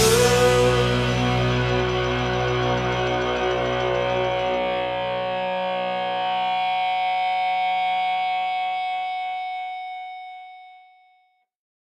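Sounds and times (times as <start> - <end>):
distorted electric guitar chord: 0.0 - 10.6.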